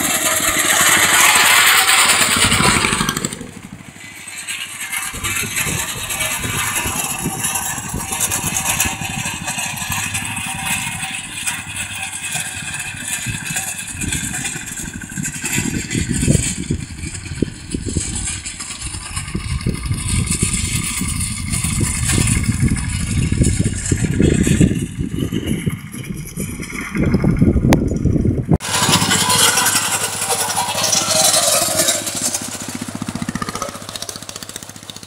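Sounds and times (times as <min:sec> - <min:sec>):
mechanical clatter of cutter: 0:00.0 - 0:32.6
mowing machine engine running: 0:00.0 - 0:35.0.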